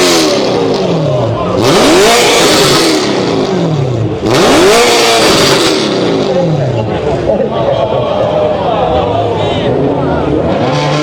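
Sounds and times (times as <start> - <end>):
car engine revving loud exhaust: 0.0 - 7.3, 9.0 - 11.0.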